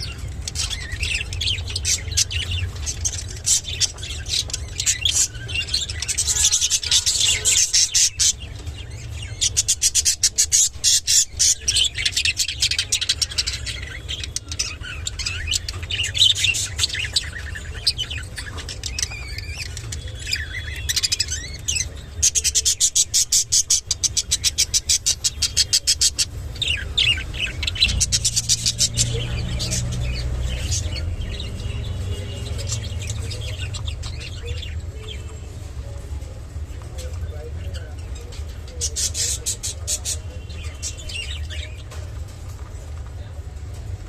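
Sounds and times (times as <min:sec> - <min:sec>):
budgerigar chirping and chattering: 0:00.0 - 0:35.4, 0:37.0 - 0:41.9.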